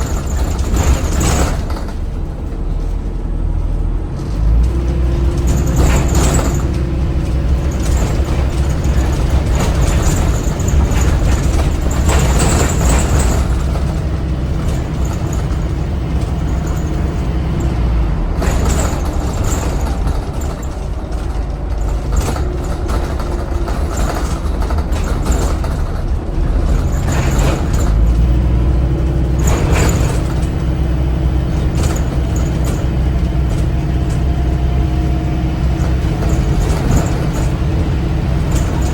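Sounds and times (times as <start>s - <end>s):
bus diesel engine rumbling: 0.0s - 38.9s.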